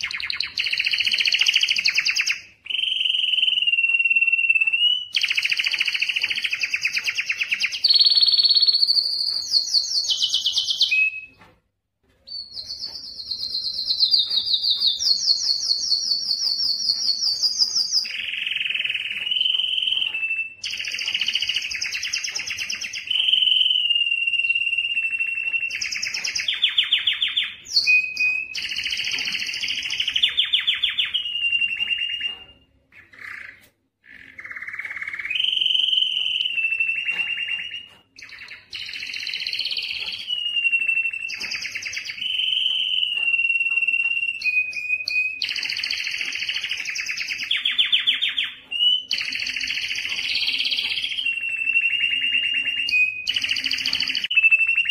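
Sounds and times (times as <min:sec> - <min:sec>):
canary singing trills: 0:00.0 - 0:11.6, 0:12.2 - 0:54.9.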